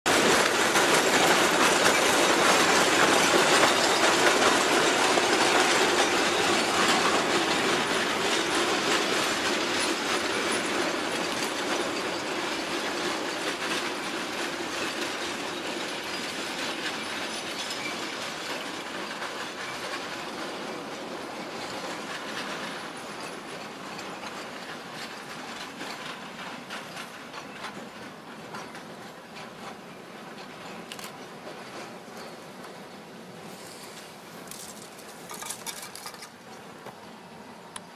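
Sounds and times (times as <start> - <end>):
steam train rolling past: 0.1 - 37.9
wheels clicking over rail joints: 0.1 - 37.9.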